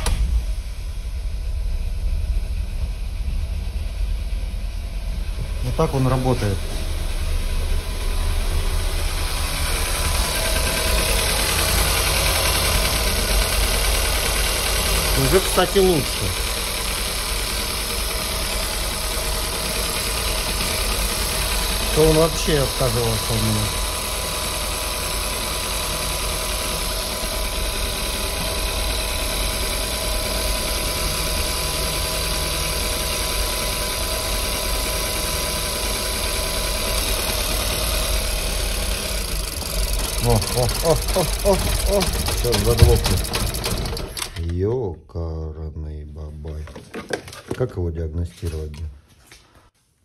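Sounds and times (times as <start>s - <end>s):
car engine idling: 0.0s - 44.4s.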